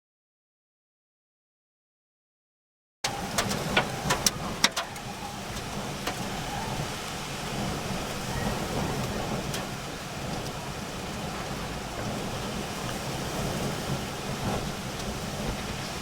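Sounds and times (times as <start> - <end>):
heavy rain: 3.0 - 16.0
vehicle engine humming: 3.0 - 16.0.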